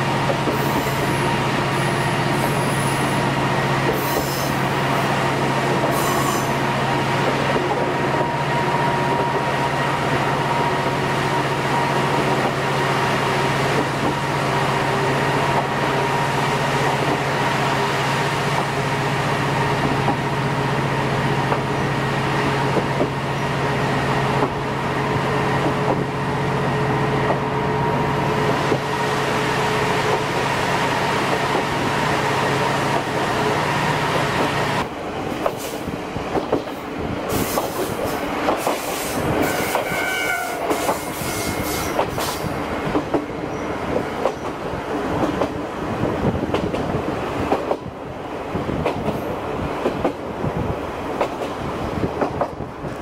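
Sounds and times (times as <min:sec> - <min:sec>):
railcar engine drone with whine: 0:00.0 - 0:53.0.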